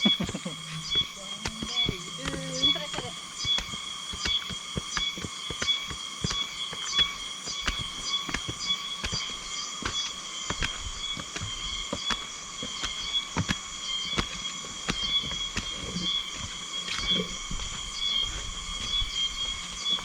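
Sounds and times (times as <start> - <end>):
footsteps on forest trail: 0.0 - 20.0
high-pitched insect chorus: 0.0 - 20.0.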